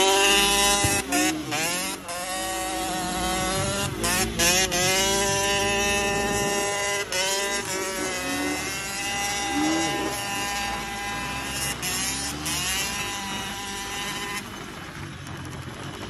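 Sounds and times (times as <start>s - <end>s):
steady high engine note: 0.0s - 15.6s
dirt bike engine revving: 0.0s - 16.0s.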